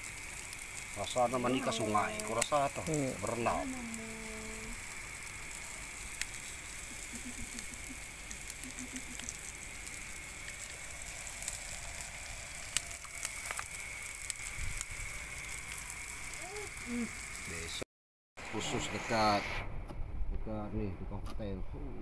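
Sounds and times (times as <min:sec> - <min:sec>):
fire crackling and popping: 0:00.0 - 0:17.8
food sizzling on a barbecue: 0:00.0 - 0:17.8, 0:18.4 - 0:19.5.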